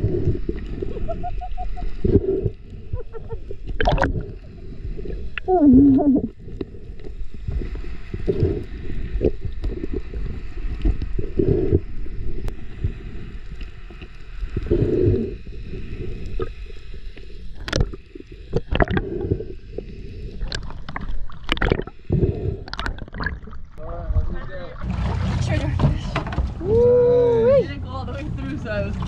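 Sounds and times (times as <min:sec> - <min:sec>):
underwater low rumble: 0:00.0 - 0:29.0.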